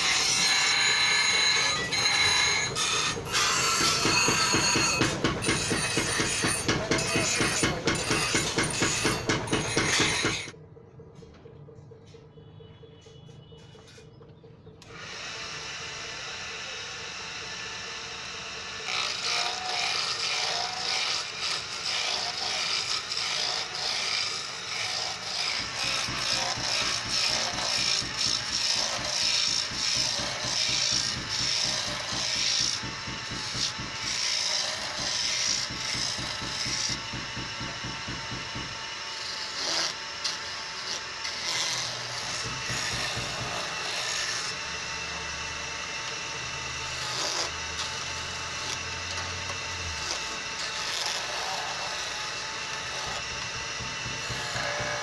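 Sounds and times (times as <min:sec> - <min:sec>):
wood lathe running: 0:00.0 - 0:10.6, 0:14.8 - 0:55.0.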